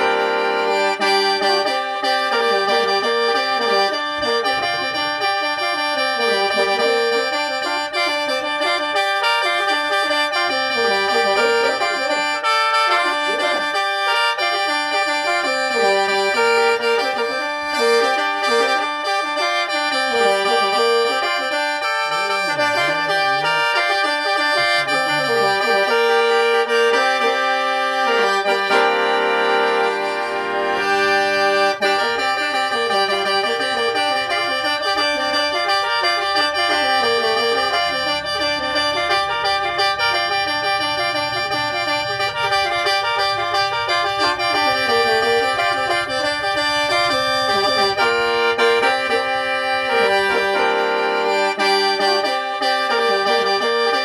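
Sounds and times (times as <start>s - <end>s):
mouth organ melody over drone: 0.0s - 54.0s.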